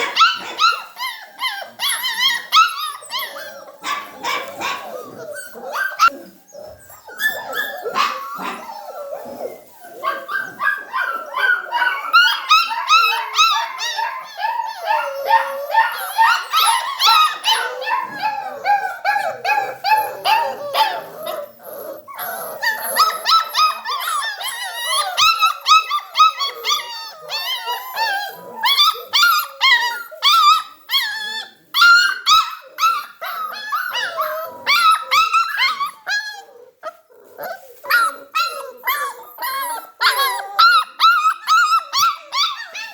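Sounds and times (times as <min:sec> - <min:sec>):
puppies barking: 0:00.0 - 0:42.9
puppies whining and yelping: 0:00.0 - 0:42.9.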